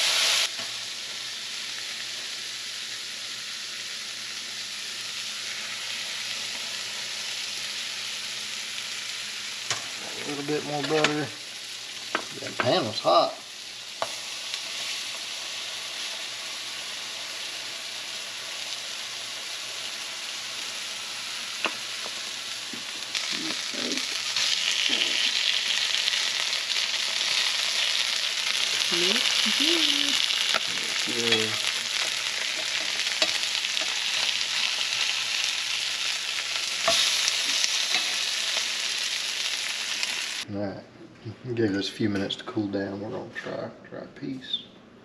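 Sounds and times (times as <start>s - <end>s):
fish sizzling in butter: 0.0s - 40.5s.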